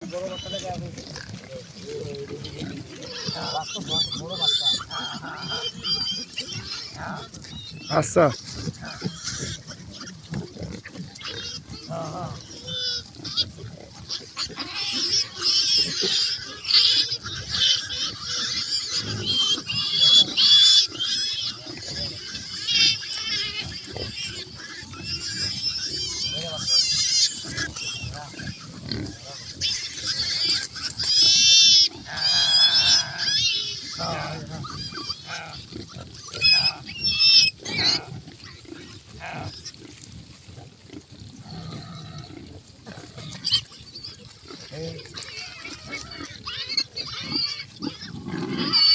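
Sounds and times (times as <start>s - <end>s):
farm animals squealing: 0.0s - 48.9s.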